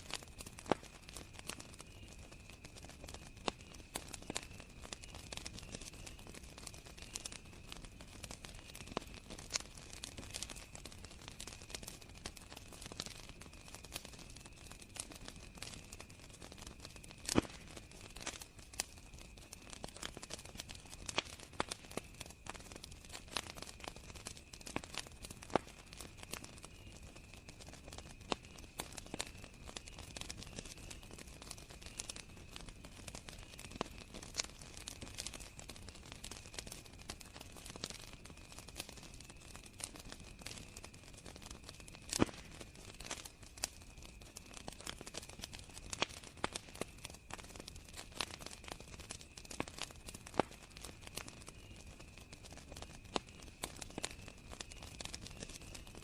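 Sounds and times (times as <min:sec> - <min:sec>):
campfire crackling and popping: 0:00.0 - 0:56.0
crickets trilling: 0:00.2 - 0:56.0.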